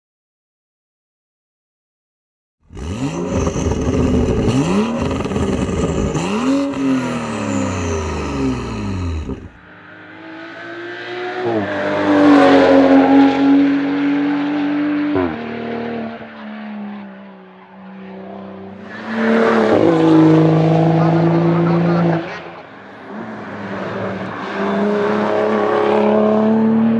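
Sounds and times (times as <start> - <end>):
car engine revving: 2.7 - 17.0, 18.0 - 26.9.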